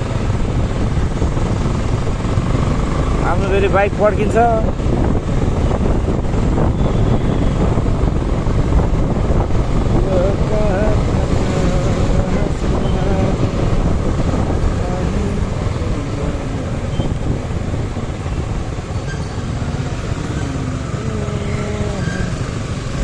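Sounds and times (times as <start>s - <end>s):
motorcycle engine and road rumble: 0.0s - 23.0s
wind rushing over microphone: 0.0s - 23.0s.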